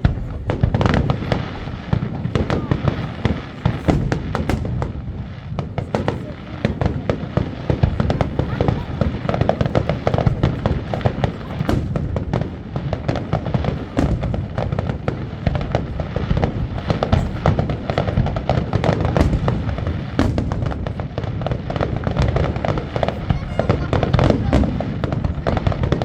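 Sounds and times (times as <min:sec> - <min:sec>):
deep fireworks booms: 0:00.0 - 0:26.0
fireworks bangs and crackles: 0:00.0 - 0:26.0.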